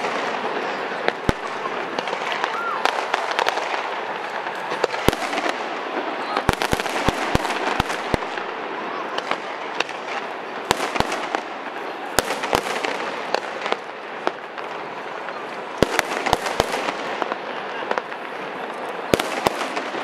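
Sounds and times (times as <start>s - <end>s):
fireworks bursting: 0.0s - 20.0s
people talking: 0.0s - 20.0s.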